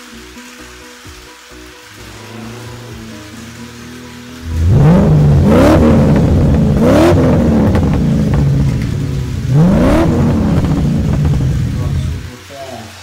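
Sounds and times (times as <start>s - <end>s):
rushing hiss: 0.0s - 13.0s
race car engine revving: 1.9s - 12.3s.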